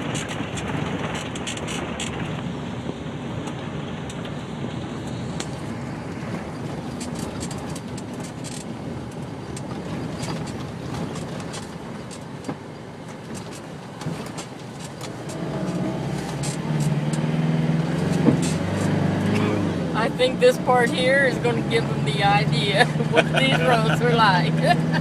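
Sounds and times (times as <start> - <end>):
car driving on dirt road: 0.0 - 25.0.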